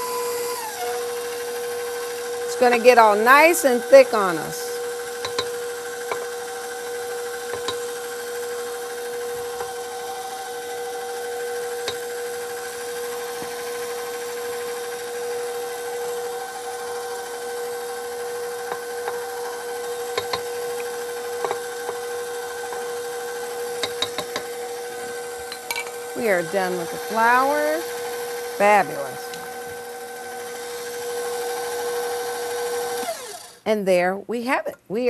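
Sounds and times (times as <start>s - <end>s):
stand mixer motor whine: 0.0s - 33.7s.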